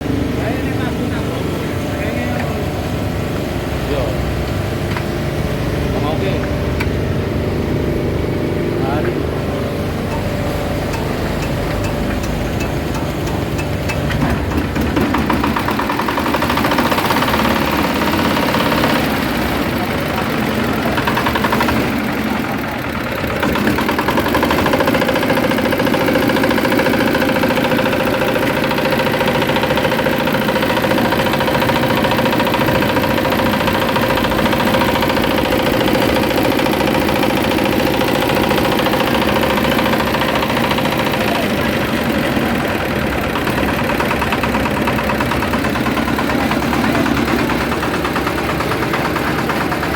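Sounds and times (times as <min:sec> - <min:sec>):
small diesel engine running: 0:00.0 - 0:49.9.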